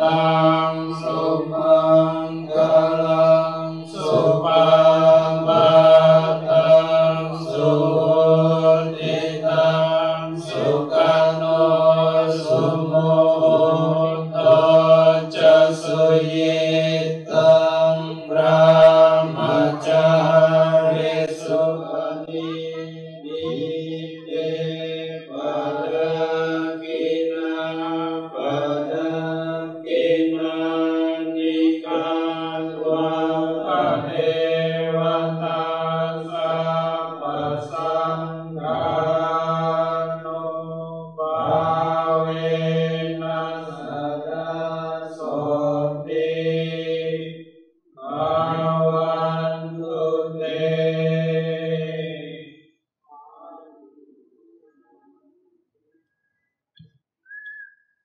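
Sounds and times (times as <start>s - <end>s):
group of voices chanting: 0.0s - 47.4s, 48.0s - 52.6s.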